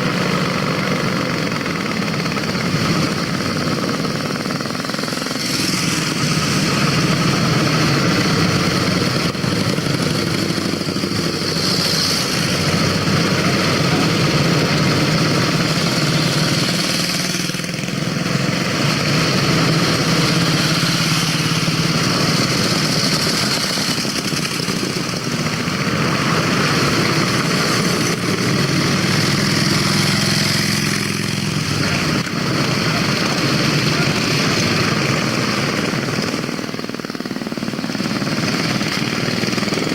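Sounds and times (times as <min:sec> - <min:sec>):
antique motorcycle engines running: 0:00.0 - 0:39.9.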